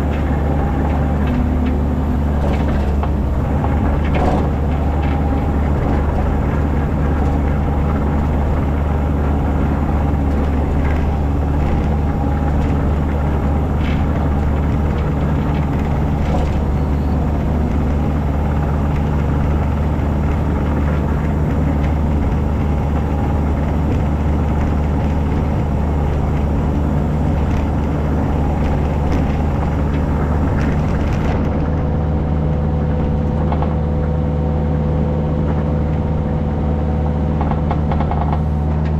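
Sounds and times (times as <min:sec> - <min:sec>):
heavy equipment engine running: 0:00.0 - 0:38.9.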